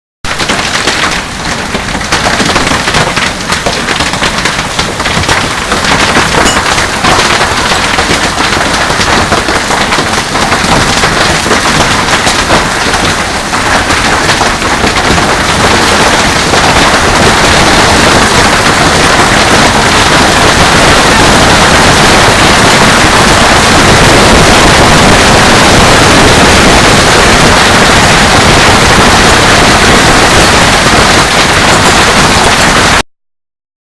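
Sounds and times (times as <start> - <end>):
heavy rain striking a surface: 0.3 - 33.0.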